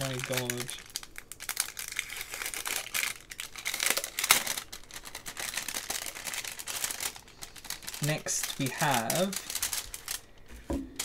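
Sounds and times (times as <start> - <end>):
sharp crack of packaging: 0.0 - 10.3
packaging crinkling and rustling: 0.0 - 11.0.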